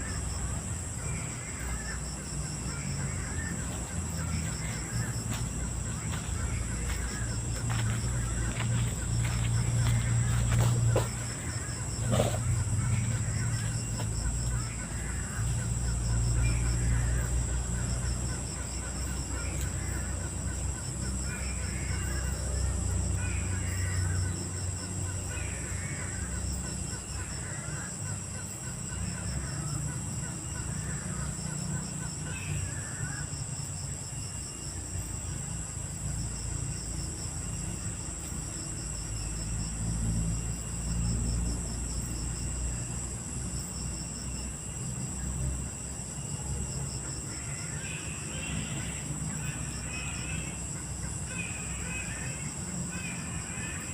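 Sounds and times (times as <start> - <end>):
night insects shrilling: 0.0 - 53.9.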